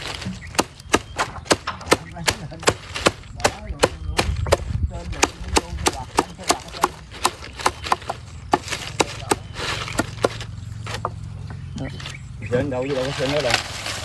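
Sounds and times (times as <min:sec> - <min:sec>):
tool striking wood: 0:00.0 - 0:11.6.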